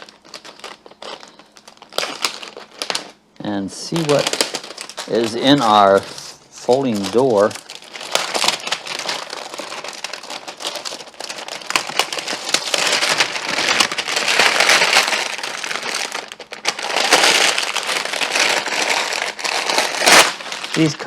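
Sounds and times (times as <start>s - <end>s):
packaging rustling and crinkling: 0.0s - 21.0s.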